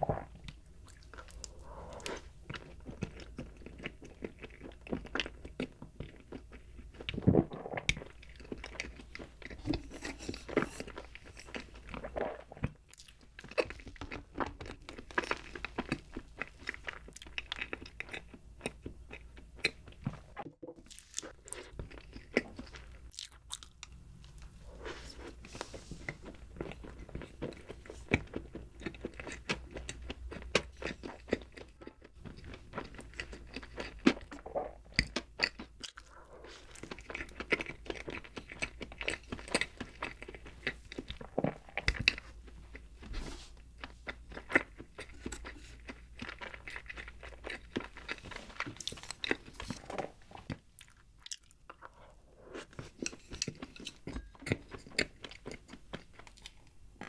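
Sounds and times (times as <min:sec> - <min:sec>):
wet chewing and mouth clicks: 0:00.0 - 0:57.0.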